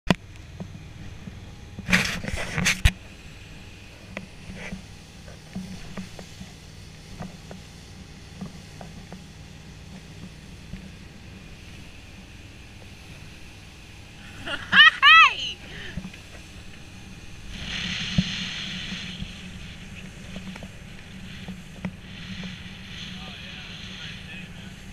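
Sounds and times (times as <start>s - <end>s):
motorboat engine drone: 0.1s - 24.9s.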